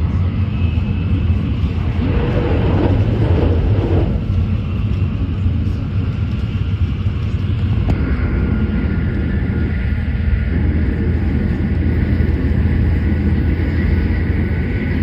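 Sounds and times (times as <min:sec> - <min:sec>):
high-speed train rumble: 0:00.0 - 0:15.0.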